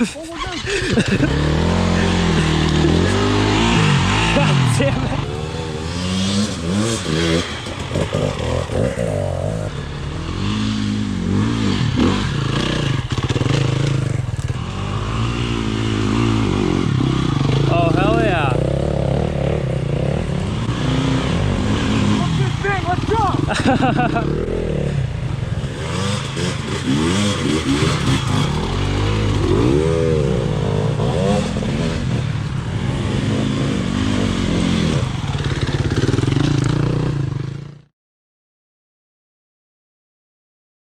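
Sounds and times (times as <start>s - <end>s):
dirt bike engine revving: 0.0s - 37.8s.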